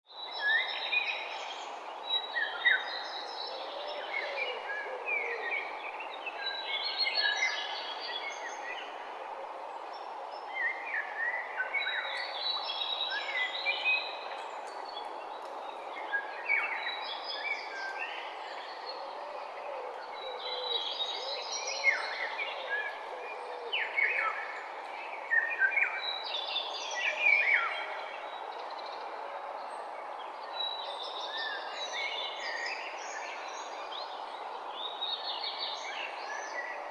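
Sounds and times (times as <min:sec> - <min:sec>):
songbirds singing: 0:00.1 - 0:36.9.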